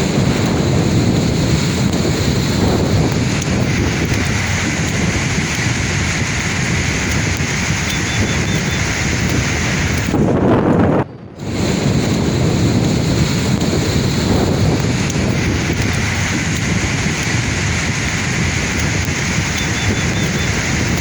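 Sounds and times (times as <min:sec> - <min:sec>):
sea waves washing on shore: 0:00.0 - 0:10.4, 0:11.4 - 0:21.0
wind rumbling on microphone: 0:00.0 - 0:21.0.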